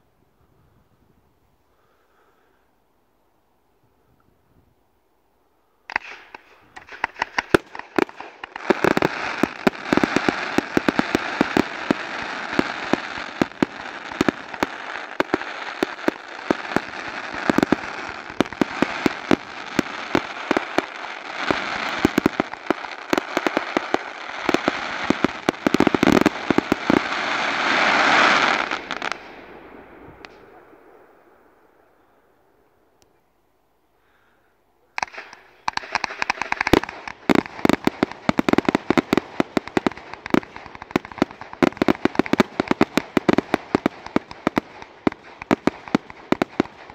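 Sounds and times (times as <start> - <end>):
crackle of bursting stars: 5.6 - 33.2, 35.0 - 46.9.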